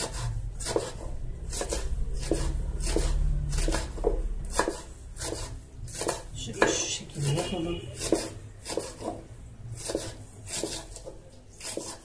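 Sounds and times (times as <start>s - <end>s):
knife chopping on wooden board: 0.0s - 12.0s.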